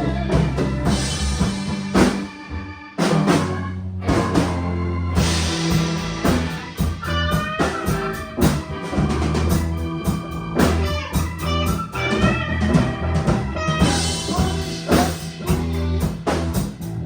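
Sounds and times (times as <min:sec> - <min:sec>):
bass guitar: 0:00.0 - 0:17.0
drum kit beat: 0:00.0 - 0:17.0
electric guitar: 0:00.0 - 0:17.0
sustained keyboard notes: 0:00.0 - 0:17.0.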